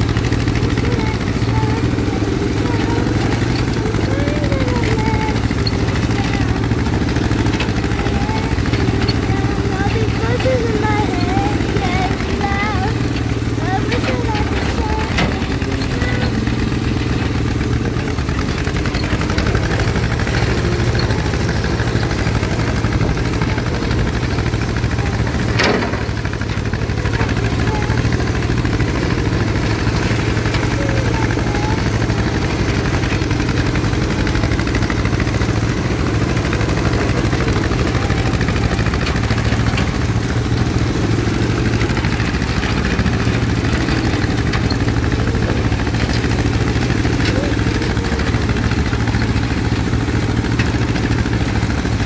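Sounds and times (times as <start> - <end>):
rotary cutter mowing grass: 0.0 - 52.0
tractor engine running: 0.0 - 52.0.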